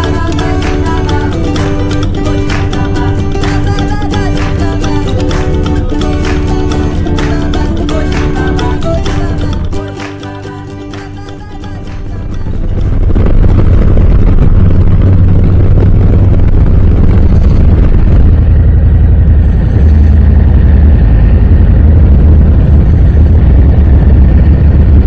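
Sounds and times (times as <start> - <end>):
motorcycle engine running loud: 0.0 - 25.0.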